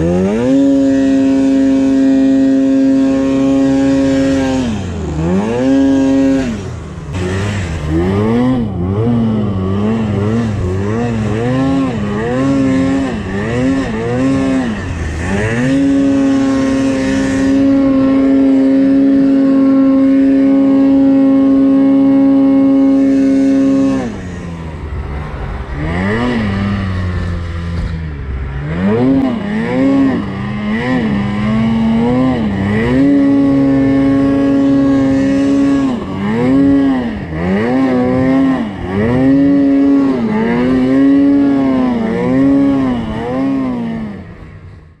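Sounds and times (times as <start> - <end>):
snowmobile engine revving: 0.0 - 45.0.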